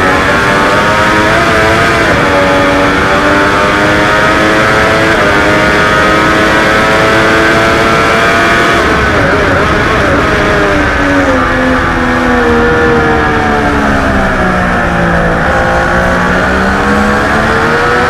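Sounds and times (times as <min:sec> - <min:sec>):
motorcycle engine accelerating hard: 0:00.0 - 0:18.0.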